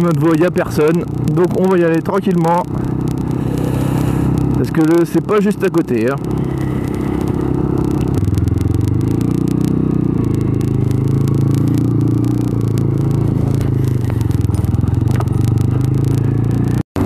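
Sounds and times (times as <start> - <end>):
motorcycle engine running: 0.0 - 17.0
wind rumble: 0.6 - 16.8.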